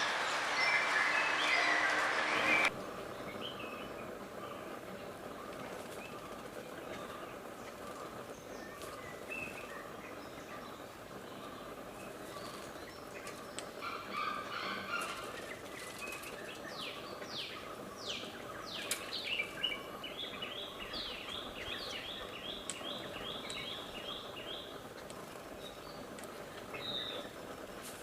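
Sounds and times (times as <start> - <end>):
steady background hiss: 0.0 - 28.0
wild birds singing: 0.0 - 28.0.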